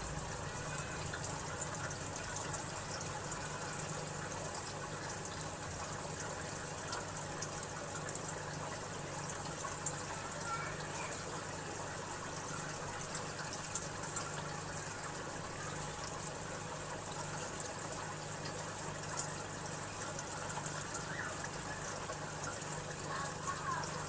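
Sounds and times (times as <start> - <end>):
low pump hum: 0.0 - 24.0
trickling water: 0.0 - 24.0.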